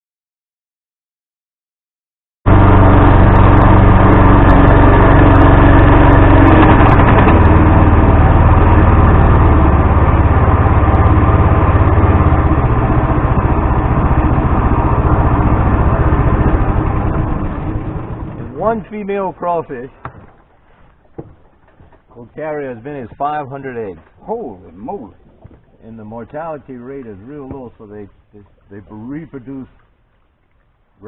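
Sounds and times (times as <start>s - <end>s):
boat outboard motor running: 2.5s - 31.0s.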